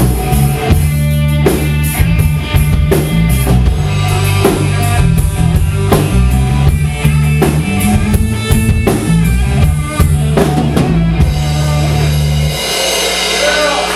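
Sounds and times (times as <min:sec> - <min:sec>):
drum kit steady beat: 0:00.0 - 0:13.9
electric bass: 0:00.0 - 0:13.9
electric guitar: 0:00.0 - 0:13.9.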